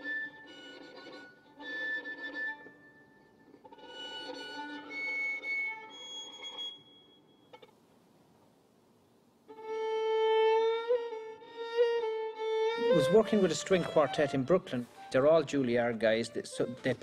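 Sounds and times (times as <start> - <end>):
bowed violin: 0.0 - 6.9, 9.5 - 17.0.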